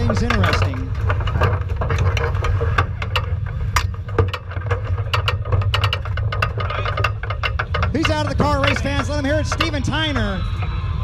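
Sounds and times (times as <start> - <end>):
sharp clicks and knocks: 0.0 - 10.8.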